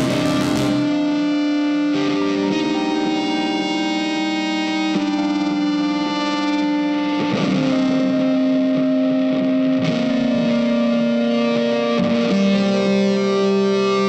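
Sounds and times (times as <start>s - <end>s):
slow music with long notes: 0.0s - 14.0s.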